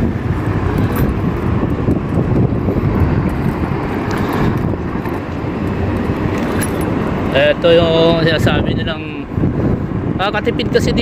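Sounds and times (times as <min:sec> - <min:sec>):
scooter tyre rumble: 0:00.0 - 0:10.2
wind rushing over microphone: 0:00.0 - 0:11.0.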